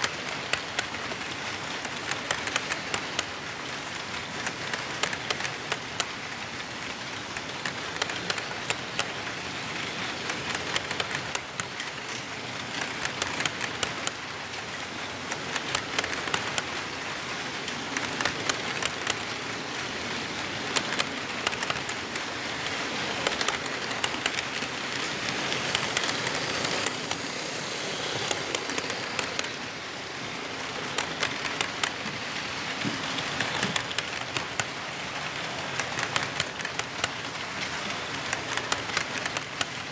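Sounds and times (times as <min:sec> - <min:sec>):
metal wheels clicking on rails: 0:00.0 - 0:39.9
model train rolling hiss: 0:00.0 - 0:39.9.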